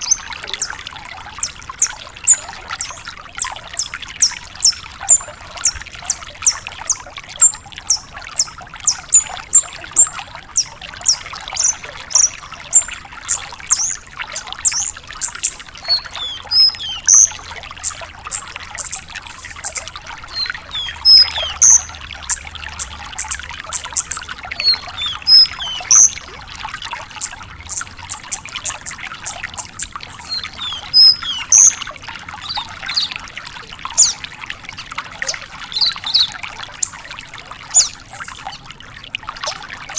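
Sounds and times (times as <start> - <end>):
bird singing fast chirps: 0.0 - 0.8, 1.4 - 26.3, 27.2 - 33.2, 33.9 - 34.2, 35.2 - 36.4, 37.7 - 38.6.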